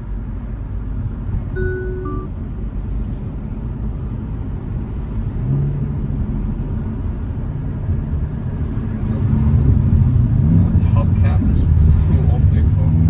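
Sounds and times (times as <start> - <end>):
car engine running: 0.0 - 13.0
road and wind rumble: 0.0 - 13.0.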